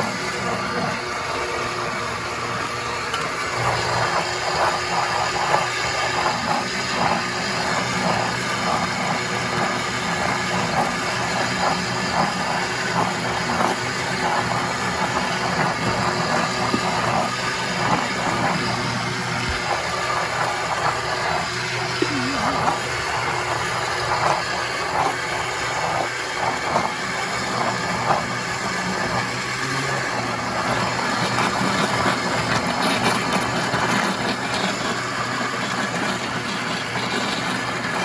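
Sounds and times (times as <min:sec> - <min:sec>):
blender motor whirring: 0:00.0 - 0:38.0.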